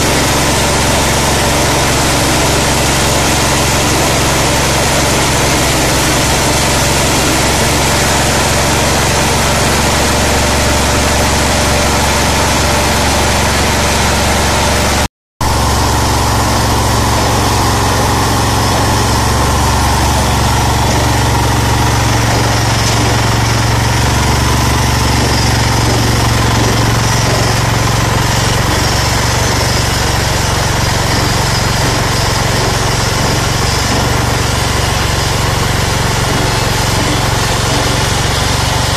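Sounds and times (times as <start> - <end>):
rice huller engine running: 0.0 - 38.9.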